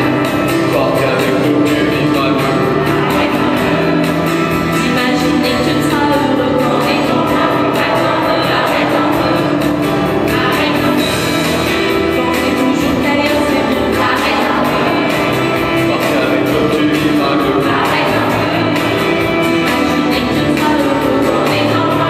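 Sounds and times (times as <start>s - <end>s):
song with singing: 0.0s - 22.0s.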